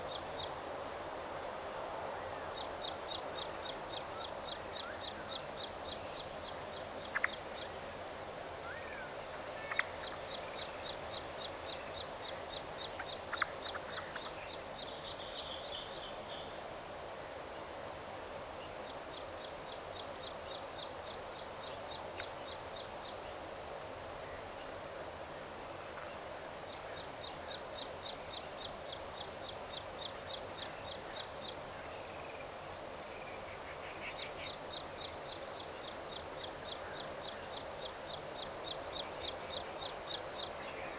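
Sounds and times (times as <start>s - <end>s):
dense insect chorus: 0.0s - 40.9s.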